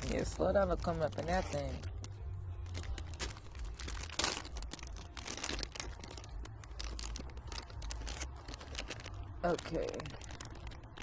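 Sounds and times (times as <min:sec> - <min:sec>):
wrapper tearing and crinkling: 0:00.0 - 0:11.0.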